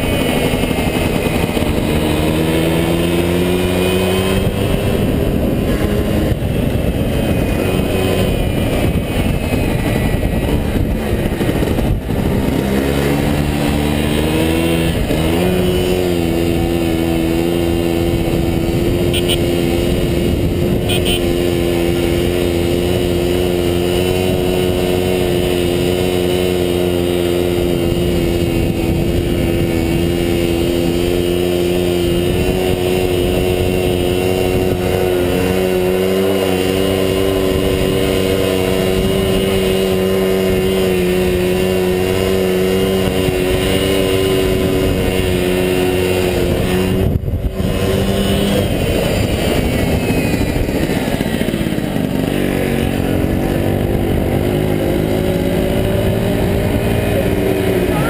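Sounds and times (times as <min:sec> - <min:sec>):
moped engine running: 0:00.0 - 0:58.0.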